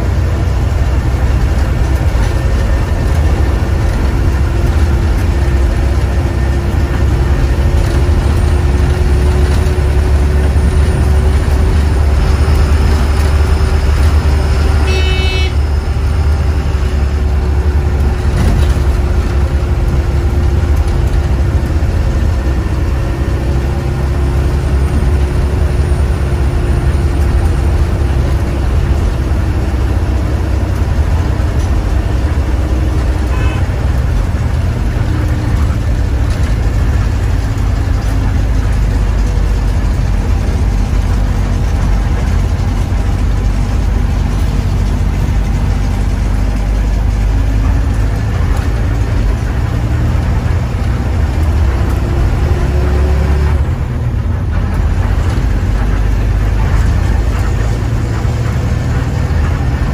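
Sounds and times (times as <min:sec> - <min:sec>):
diesel bus engine rumble: 0:00.0 - 0:59.9
road noise: 0:00.0 - 0:59.9.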